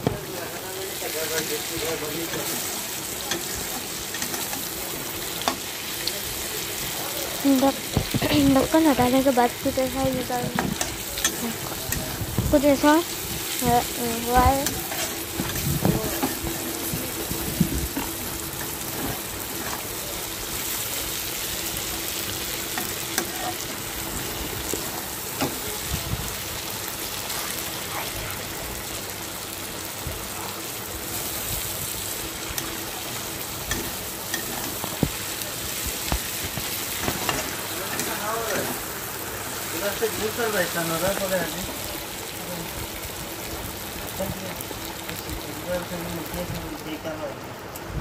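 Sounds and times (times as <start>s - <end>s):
food sizzling: 0.0s - 47.9s.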